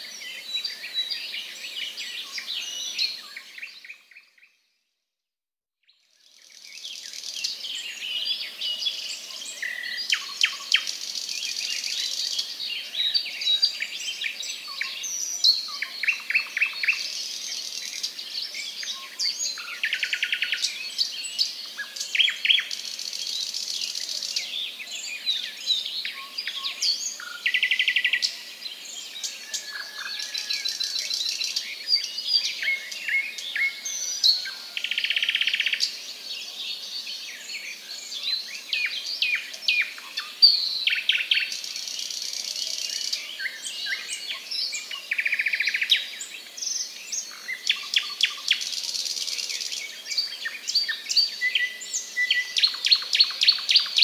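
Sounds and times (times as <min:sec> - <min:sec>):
small birds chirping: 0:05.9 - 0:54.0.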